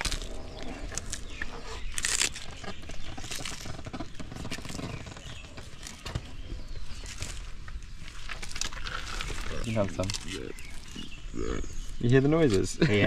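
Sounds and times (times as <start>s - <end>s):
leafy branch rustling: 0.0s - 11.2s
tortoise chewing: 0.0s - 13.0s.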